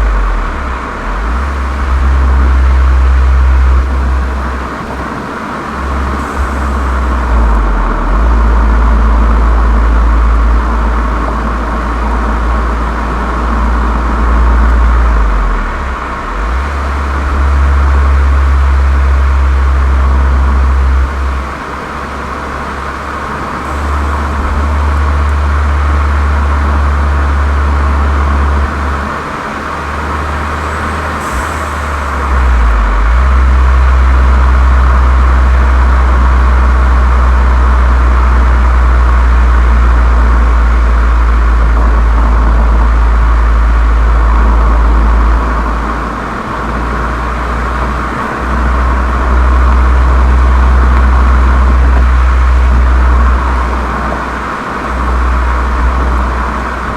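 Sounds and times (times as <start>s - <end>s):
low exhaust drone: 0.0s - 56.9s
road noise: 0.0s - 56.9s.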